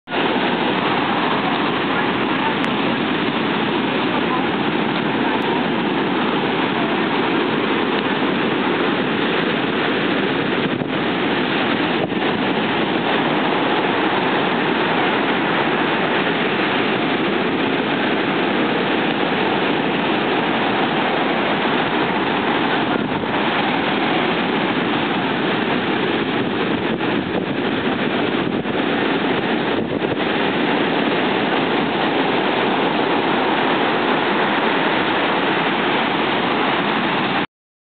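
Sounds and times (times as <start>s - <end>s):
surf waves crashing: 0.0s - 37.5s.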